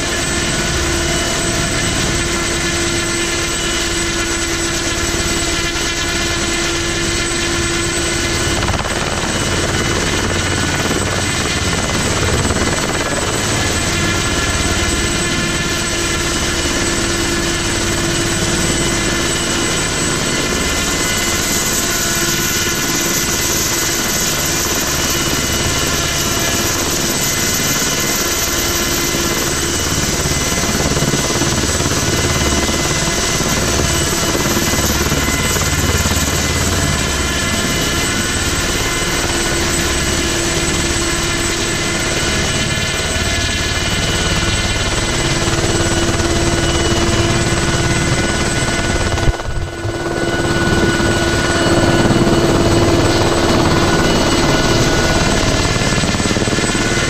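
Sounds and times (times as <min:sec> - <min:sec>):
helicopter hovering overhead: 0:00.0 - 0:57.0.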